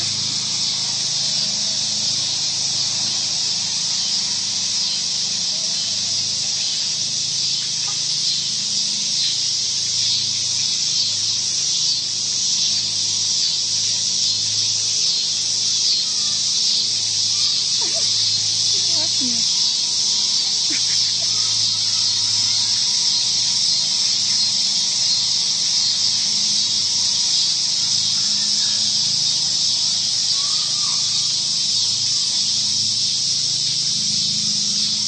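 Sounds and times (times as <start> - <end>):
high-pitched hiss: 0.0 - 35.0.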